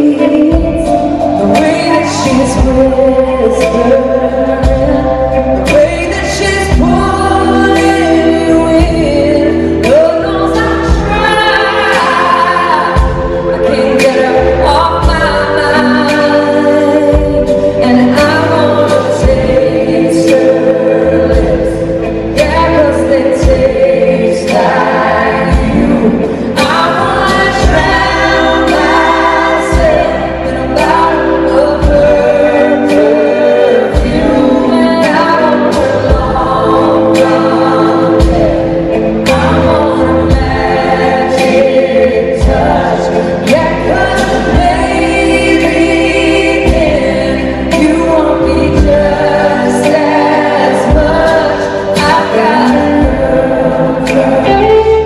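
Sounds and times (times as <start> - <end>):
live band playing: 0.0 - 55.0
vocal group singing in harmony: 0.0 - 55.0.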